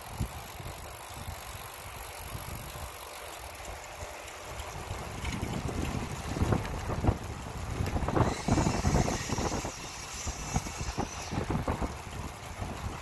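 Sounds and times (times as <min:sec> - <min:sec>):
bicycle rolling rumble: 0:00.0 - 0:13.0.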